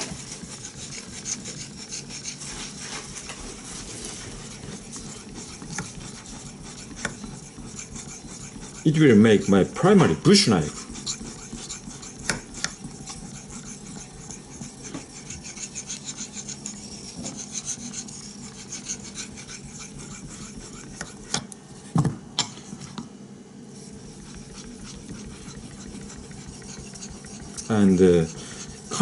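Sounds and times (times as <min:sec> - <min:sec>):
knife blade scraping on whetstone: 0:00.0 - 0:21.4, 0:23.9 - 0:29.0.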